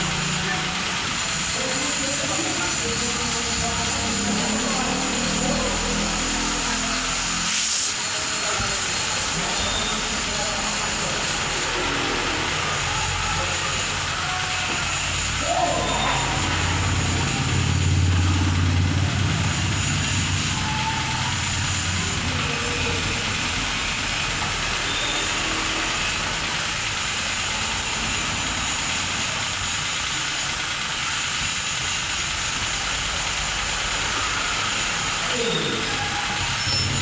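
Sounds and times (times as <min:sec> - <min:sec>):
high-pressure water jet hissing: 0:00.0 - 0:37.0.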